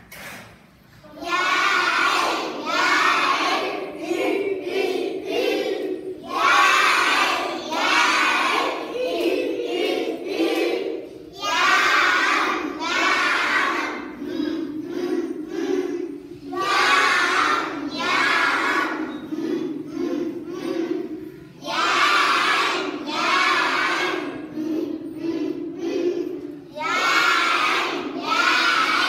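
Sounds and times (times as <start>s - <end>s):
children chanting in unison: 1.0s - 29.0s.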